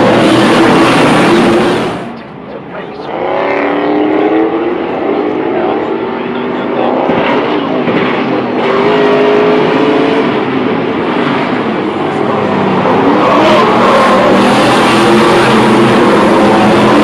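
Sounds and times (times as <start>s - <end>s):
racing truck engines passing: 0.0s - 17.0s.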